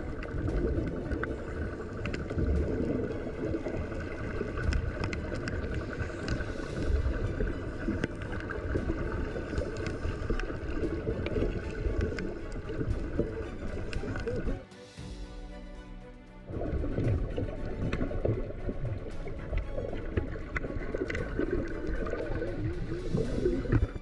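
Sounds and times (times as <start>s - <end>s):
low rumbling of moving water: 0.0s - 15.2s, 16.4s - 24.0s.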